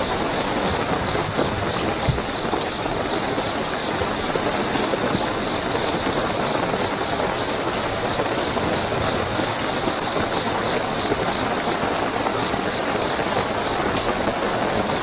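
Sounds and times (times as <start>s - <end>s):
crickets chirping: 0.0s - 15.0s
heavy rain: 0.0s - 15.0s.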